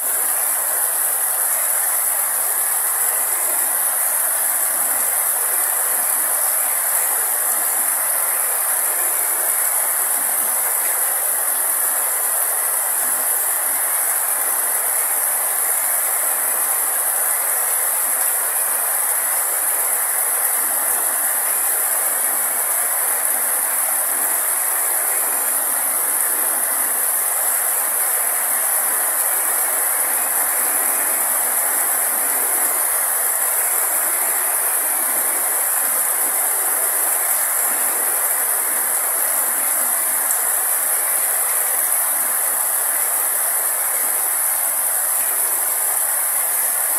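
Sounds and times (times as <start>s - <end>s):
heavy rain on vegetation: 0.0s - 46.9s.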